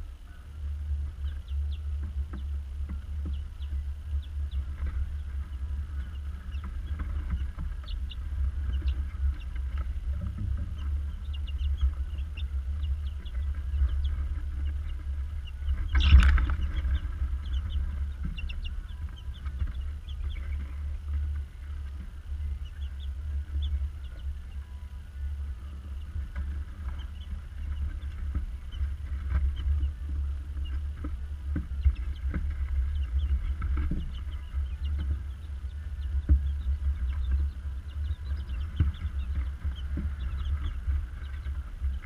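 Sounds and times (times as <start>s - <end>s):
chicks peeping: 0.0s - 42.0s
low hum: 0.0s - 42.0s
rustle: 0.0s - 42.0s.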